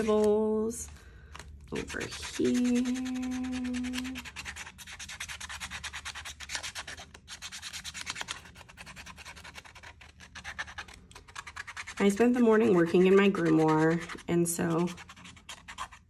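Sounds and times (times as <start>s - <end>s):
marker scribbling on paper: 1.8s - 16.0s.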